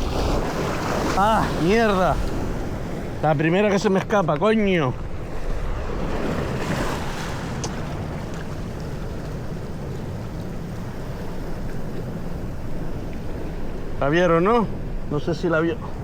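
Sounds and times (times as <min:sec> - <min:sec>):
sea surf washing: 0:00.0 - 0:16.0
wind rumbling on microphone: 0:00.0 - 0:16.0.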